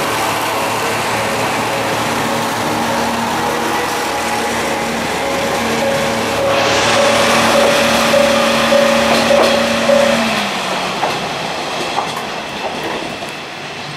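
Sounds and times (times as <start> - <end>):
railcar engine hum: 0.0 - 13.9
wheel and rail noise: 0.0 - 13.9
wheels clicking on rail joints: 0.0 - 13.9.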